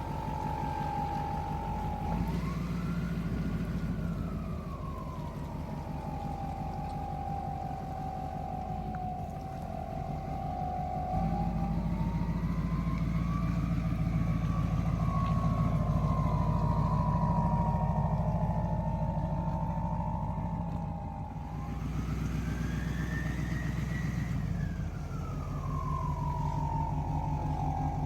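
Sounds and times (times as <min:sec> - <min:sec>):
truck engine running: 0:00.0 - 0:28.0
whine rising and falling: 0:00.0 - 0:28.0.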